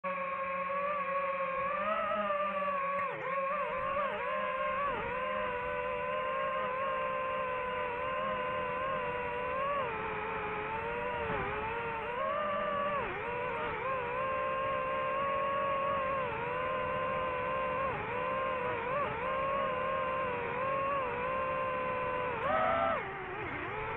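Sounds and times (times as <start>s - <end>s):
drone propellers whining: 0.0s - 23.9s.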